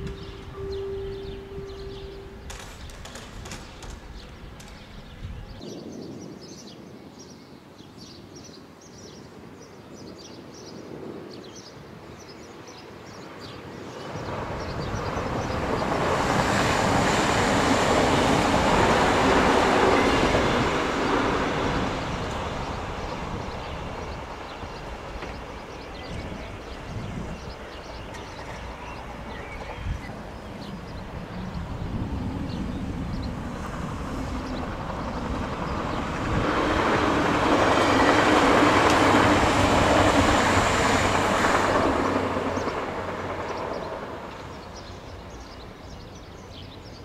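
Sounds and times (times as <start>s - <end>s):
train passing: 0.0s - 5.8s, 13.3s - 47.0s.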